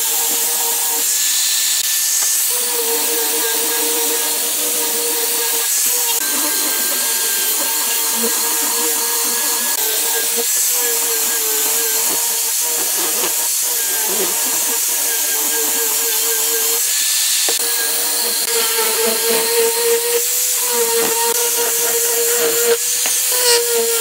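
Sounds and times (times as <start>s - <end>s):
angle grinder sanding wood: 0.0s - 24.0s.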